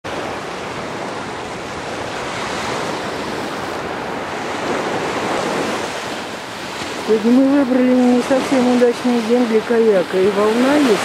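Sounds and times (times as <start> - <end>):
small waves washing on sand: 0.1 - 11.0
wind on microphone: 0.1 - 11.0.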